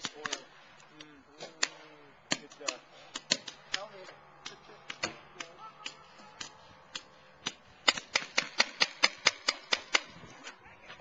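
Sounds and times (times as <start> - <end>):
paintball markers firing: 0.0 - 0.5, 1.4 - 10.2.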